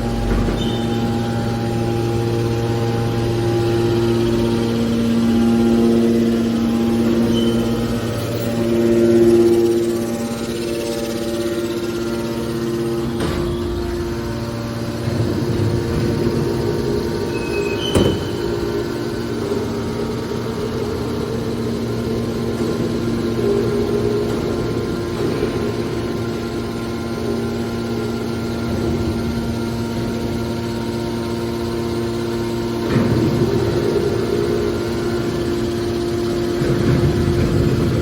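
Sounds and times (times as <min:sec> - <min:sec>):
hydraulic baler humming: 0:00.0 - 0:38.0.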